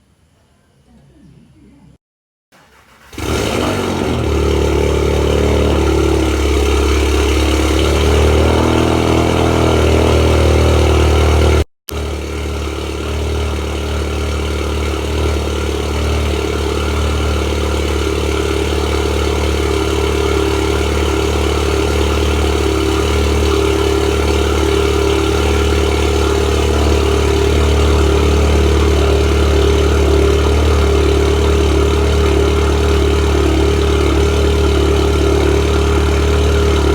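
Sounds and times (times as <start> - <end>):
car engine starting and idling: 2.5 - 36.9.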